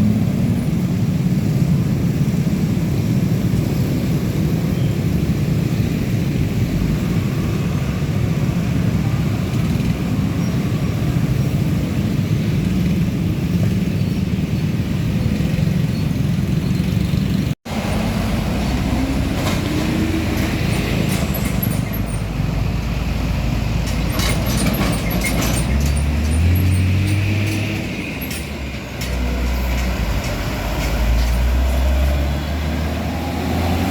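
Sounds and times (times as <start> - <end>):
diesel trucks passing: 0.0 - 33.9
engine rumbling with clicks: 6.6 - 33.9.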